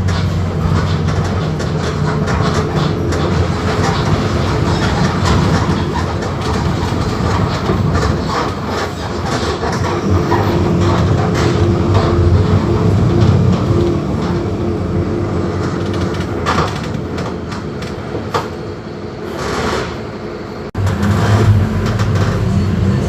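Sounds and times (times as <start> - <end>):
bus body rattling: 0.0 - 23.0
bus diesel engine running: 0.0 - 23.0.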